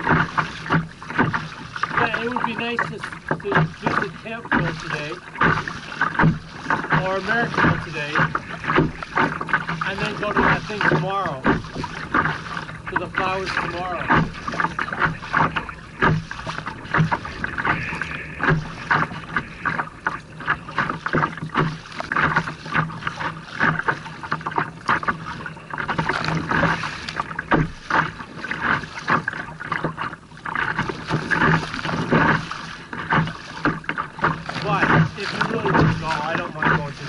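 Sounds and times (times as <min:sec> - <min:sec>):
paddle churning water: 0:00.0 - 0:37.0
waves splashing against kayak hull: 0:00.0 - 0:37.0.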